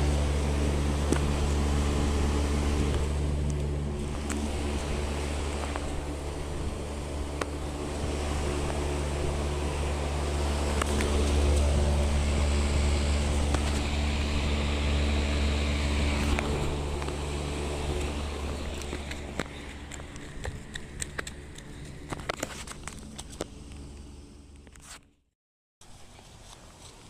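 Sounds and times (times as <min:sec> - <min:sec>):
air conditioning compressor hum: 0:00.0 - 0:24.6
fan noise: 0:00.0 - 0:25.1.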